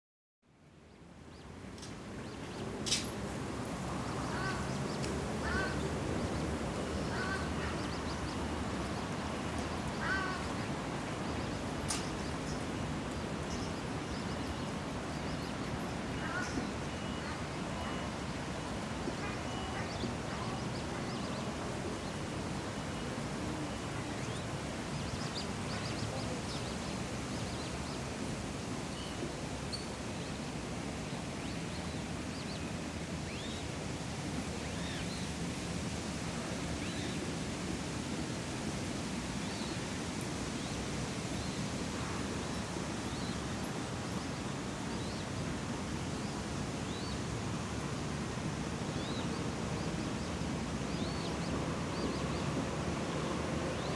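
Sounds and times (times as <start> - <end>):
steady breeze: 0.4 - 53.9.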